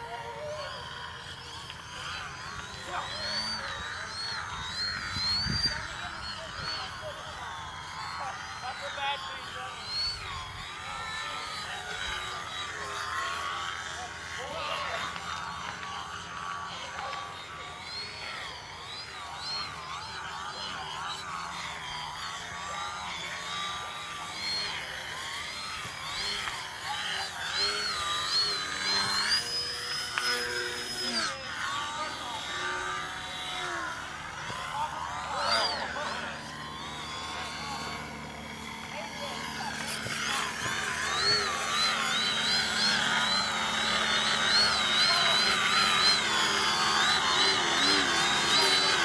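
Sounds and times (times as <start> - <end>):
model plane motor whining: 0.0 - 49.0.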